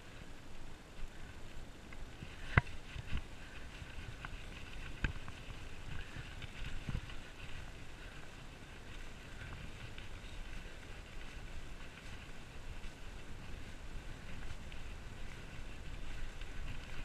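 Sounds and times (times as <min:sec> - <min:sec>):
bicycle tyre rumble on gravel: 0:00.0 - 0:17.0
wind buffeting microphone: 0:00.8 - 0:17.0.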